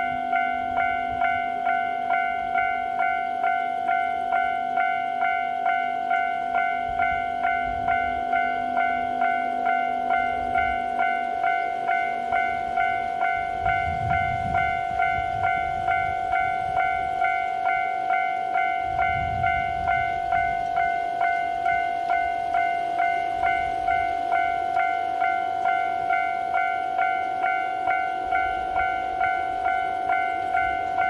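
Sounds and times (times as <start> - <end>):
level crossing bell ringing: 0.0 - 31.0.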